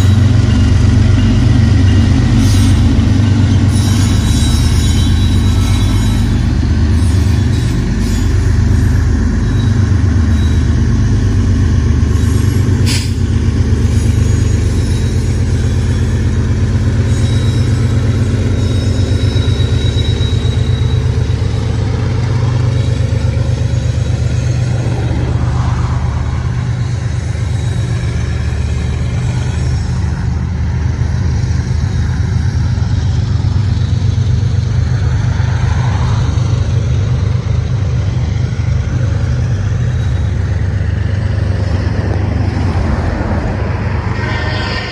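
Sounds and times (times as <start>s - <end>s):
diesel locomotive rumble: 0.0s - 44.9s.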